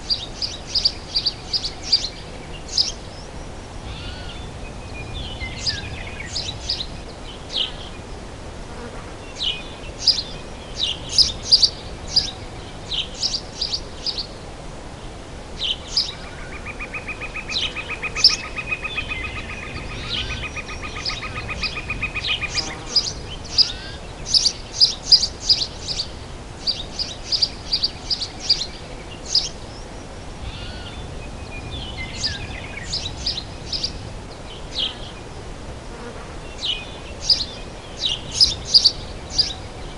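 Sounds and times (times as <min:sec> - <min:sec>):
low background hiss: 0:00.0 - 0:39.9
songbirds chirping: 0:00.0 - 0:39.9.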